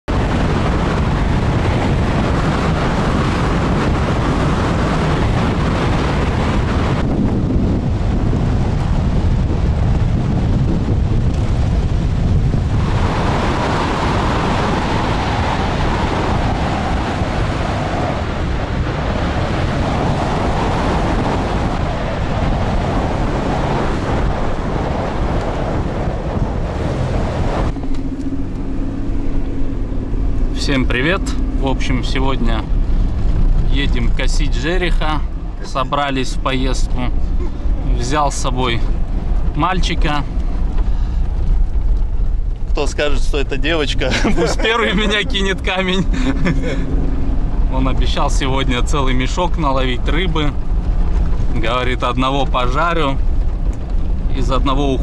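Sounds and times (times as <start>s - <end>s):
vehicle engine: 0.0s - 55.0s
wind rushing over microphone: 0.0s - 55.0s
tyres on sandy dirt track: 0.1s - 55.0s.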